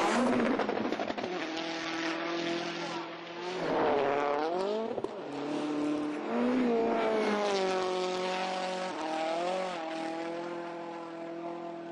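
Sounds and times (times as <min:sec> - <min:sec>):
rally car engine revving: 0:00.0 - 0:11.9.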